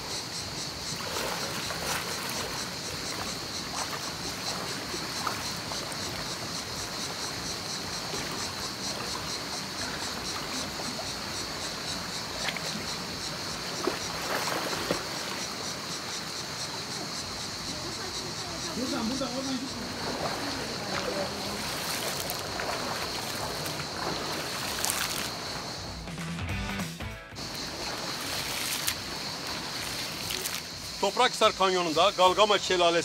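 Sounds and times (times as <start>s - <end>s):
mountain stream rushing: 0.0s - 25.8s, 27.4s - 33.0s
insects buzzing: 0.0s - 33.0s.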